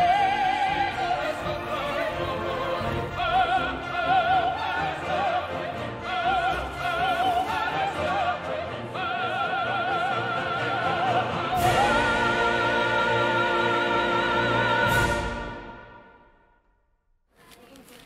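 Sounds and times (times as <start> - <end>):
opera singer with orchestra: 0.0 - 16.3.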